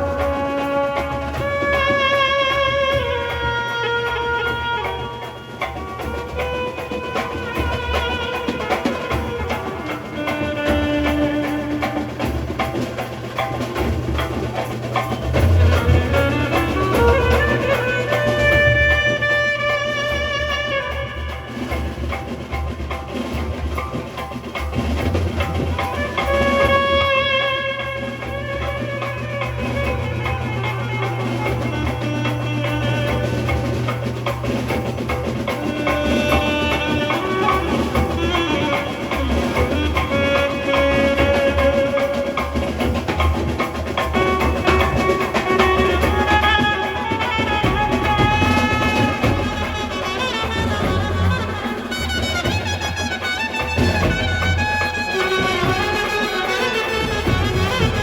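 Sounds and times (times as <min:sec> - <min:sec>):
saxophone melody: 0:00.0 - 0:58.0
steady drum beat: 0:00.0 - 0:58.0.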